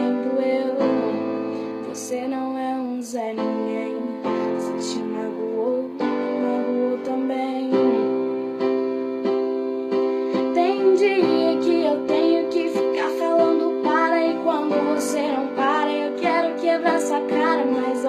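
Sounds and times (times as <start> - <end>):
sustained keyboard chords: 3.4 - 18.0.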